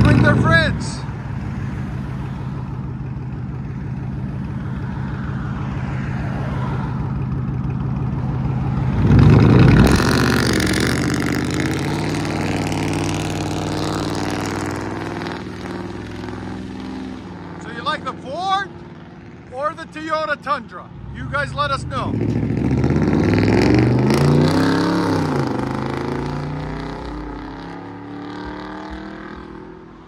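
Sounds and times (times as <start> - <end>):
truck engine idling and revving: 0.0 - 30.0.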